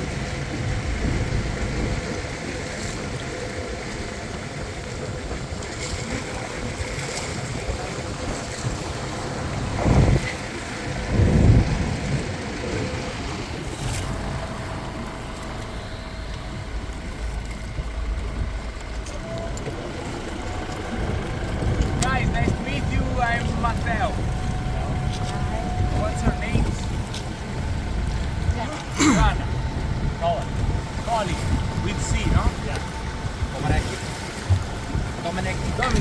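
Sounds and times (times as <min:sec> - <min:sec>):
motorboat engine running: 0:00.0 - 0:36.0
water rushing past hull: 0:00.0 - 0:36.0
wind on microphone: 0:00.0 - 0:36.0.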